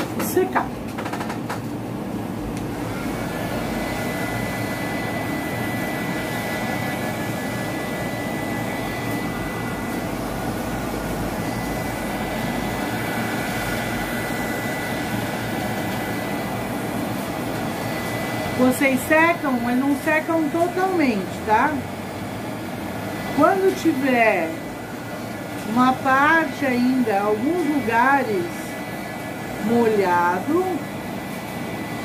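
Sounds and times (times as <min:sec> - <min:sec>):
thin motor whine: 0:02.4 - 0:32.0
heat gun blowing: 0:02.6 - 0:32.0.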